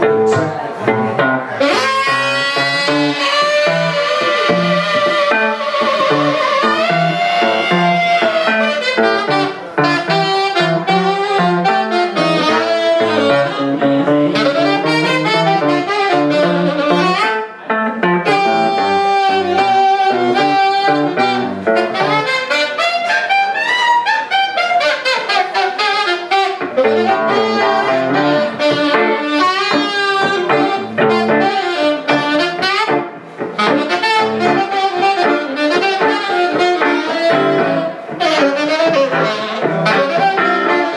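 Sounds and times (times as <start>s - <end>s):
electric guitar chords: 0.0s - 40.9s
saxophone jazz melody: 0.0s - 40.9s.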